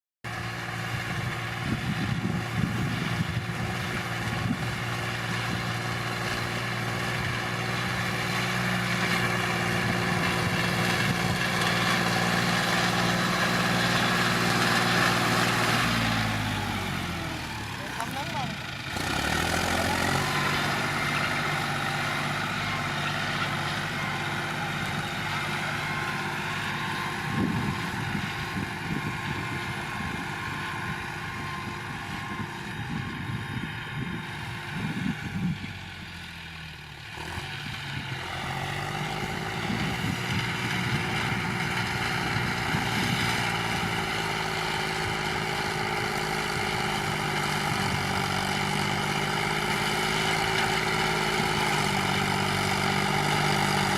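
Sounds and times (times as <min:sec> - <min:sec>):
tractor engine running: 0:00.2 - 0:53.9.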